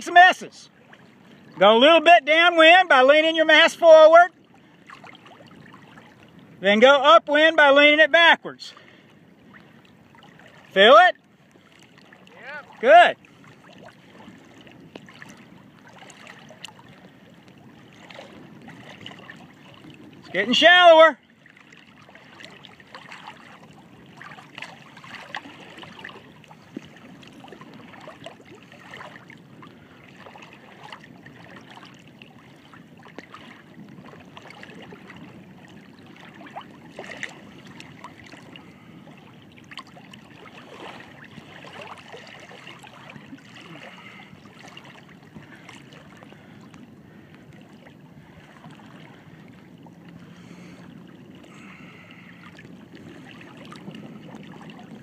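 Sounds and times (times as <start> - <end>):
small waves lapping and splashing: 0.0 - 55.0.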